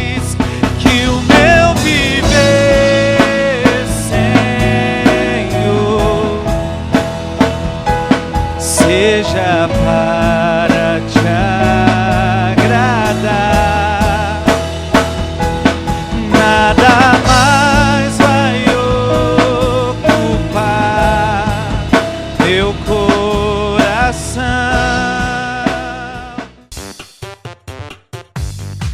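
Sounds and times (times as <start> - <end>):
sparse pulsing beat: 0.0 - 9.0, 9.8 - 27.4
worship band music: 0.0 - 27.3
drum kit beat: 0.0 - 28.9.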